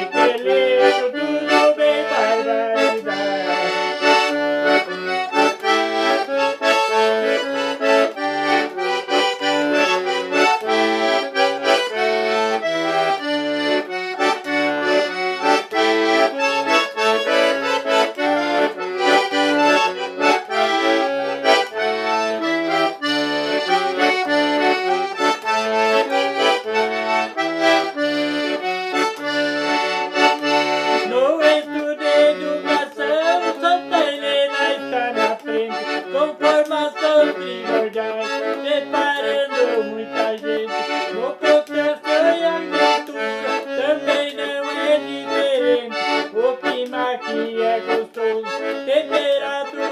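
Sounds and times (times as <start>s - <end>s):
accordion playing lively tune: 0.0s - 49.9s.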